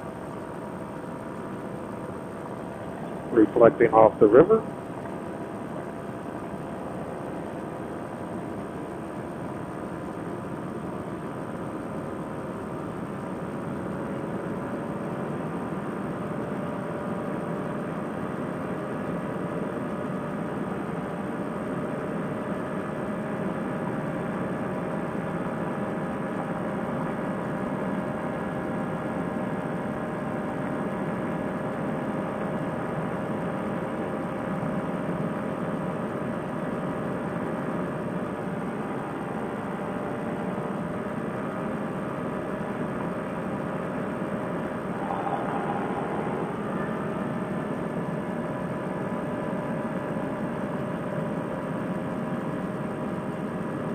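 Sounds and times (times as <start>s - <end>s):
paramotor engine droning: 0.0s - 53.9s.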